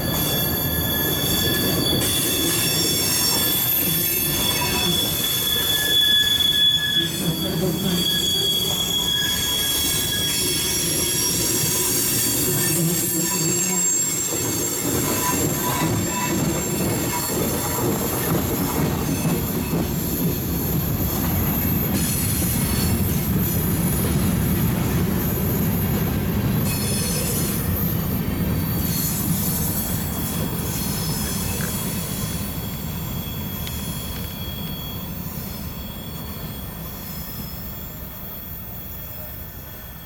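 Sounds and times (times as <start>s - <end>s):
freight train rumbling on rails: 0.0s - 40.0s
high wheel squeal: 0.0s - 40.0s.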